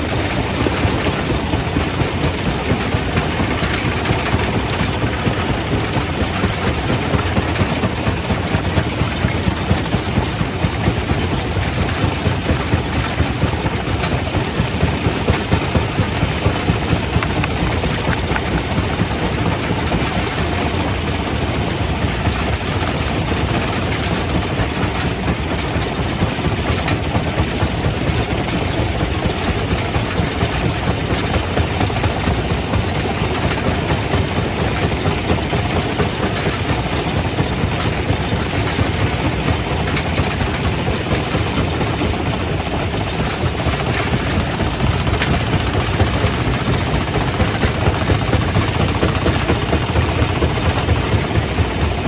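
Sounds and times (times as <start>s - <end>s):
rock crusher rumbling: 0.0s - 52.0s.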